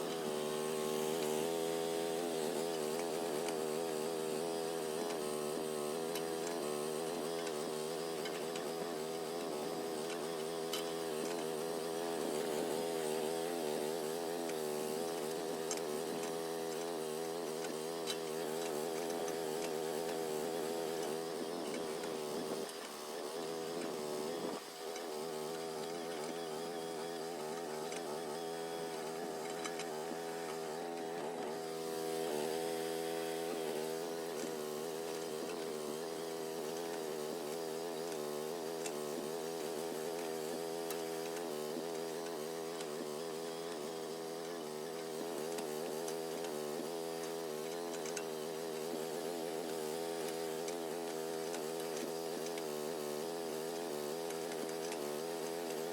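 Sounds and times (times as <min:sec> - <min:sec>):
excavator engine running: 0:00.0 - 0:52.6.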